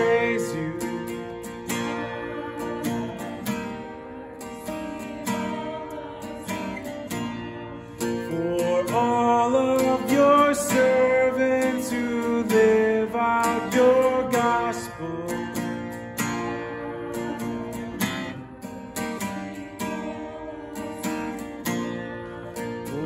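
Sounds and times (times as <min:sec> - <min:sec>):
acoustic guitar strumming: 0:00.0 - 0:23.0
guitar melody line: 0:00.0 - 0:23.0.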